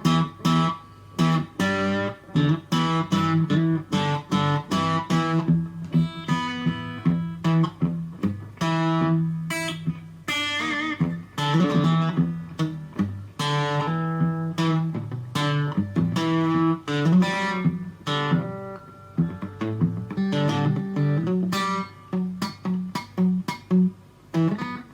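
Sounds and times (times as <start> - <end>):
electric guitar notes and chords: 0.0 - 24.9.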